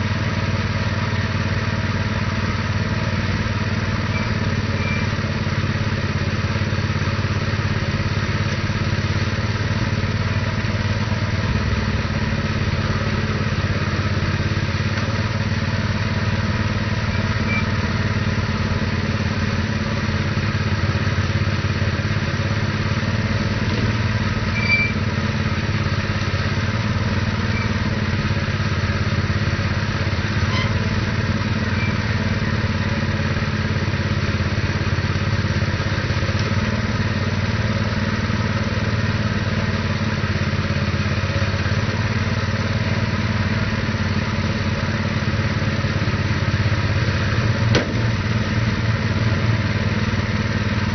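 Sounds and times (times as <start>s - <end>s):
small engine running steadily: 0.0s - 50.9s.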